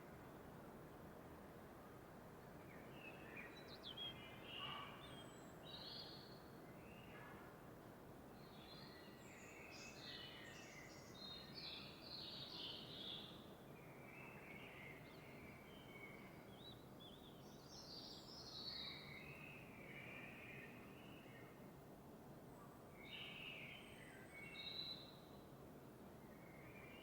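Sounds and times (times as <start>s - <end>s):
low background hiss: 0.0s - 27.0s.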